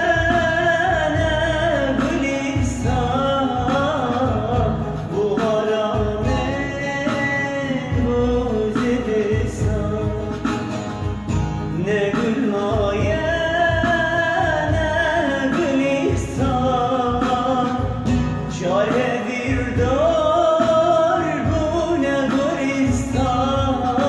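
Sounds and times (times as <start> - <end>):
instrumental backing with beat: 0.0 - 24.0
man singing: 0.0 - 24.0.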